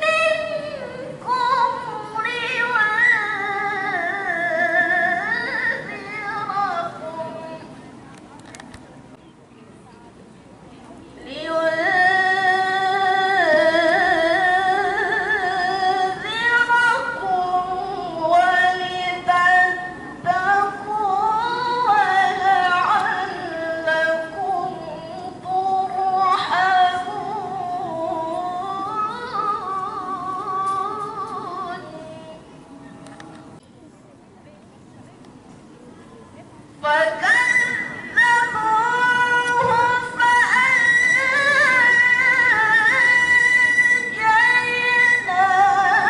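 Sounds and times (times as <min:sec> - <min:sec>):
woman reciting melodically: 0:00.0 - 0:08.0, 0:11.1 - 0:32.8, 0:36.4 - 0:46.0.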